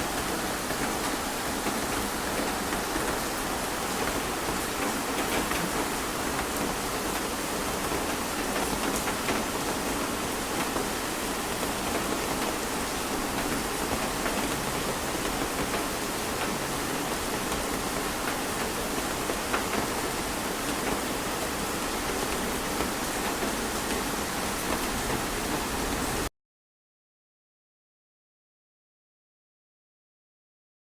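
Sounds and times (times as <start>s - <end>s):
heavy rain falling: 0.0s - 26.3s.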